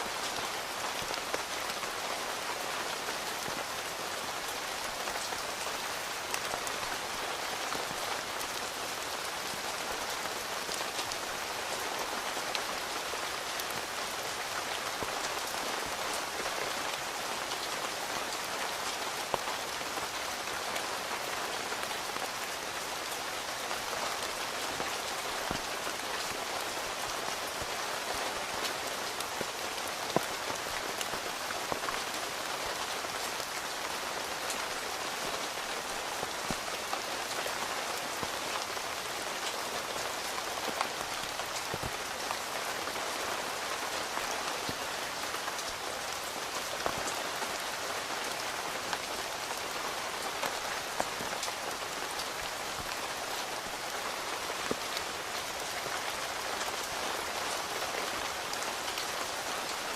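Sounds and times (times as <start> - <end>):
rain falling on a tent: 0.0 - 59.9.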